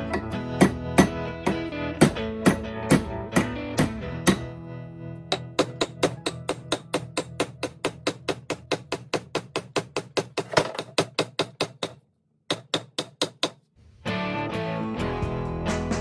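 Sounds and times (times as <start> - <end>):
hammer tapping metal wedge: 0.0 - 4.5, 5.3 - 13.6.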